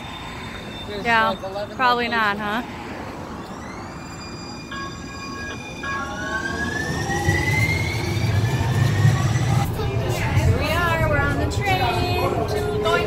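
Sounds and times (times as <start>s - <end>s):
steady tone: 0.0s - 13.0s
train electric whine: 0.0s - 13.0s
train low rumble: 0.0s - 13.0s.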